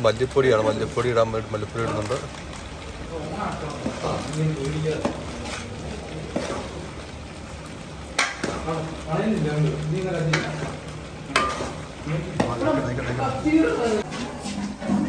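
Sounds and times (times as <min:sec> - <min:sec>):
curry sizzling in metal pot: 0:00.0 - 0:15.0.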